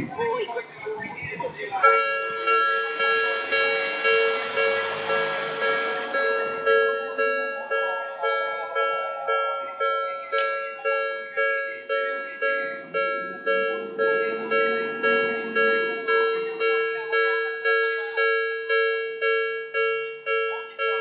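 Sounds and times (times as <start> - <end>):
level-crossing warning bell: 1.5 - 21.0.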